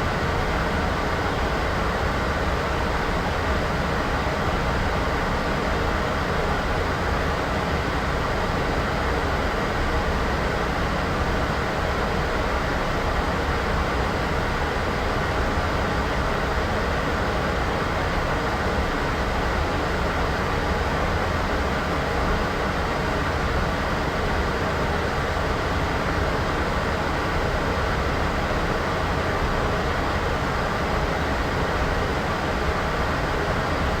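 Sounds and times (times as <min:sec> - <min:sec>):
steady white noise hiss: 0:00.0 - 0:34.0.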